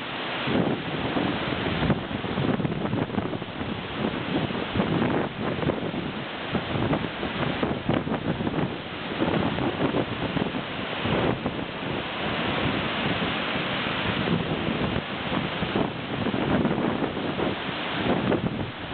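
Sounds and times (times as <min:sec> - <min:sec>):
waterfall rushing: 0:00.0 - 0:18.9
wind buffeting microphone: 0:00.4 - 0:18.9.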